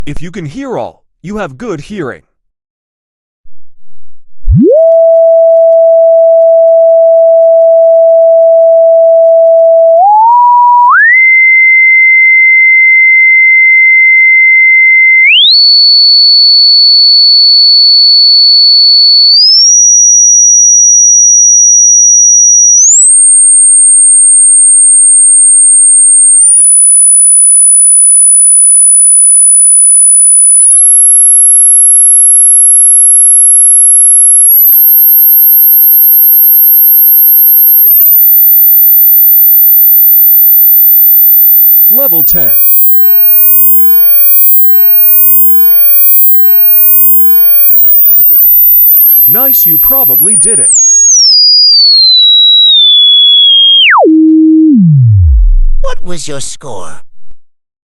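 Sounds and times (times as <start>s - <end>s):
sine test tone rising in pitch: 4.4s - 55.8s.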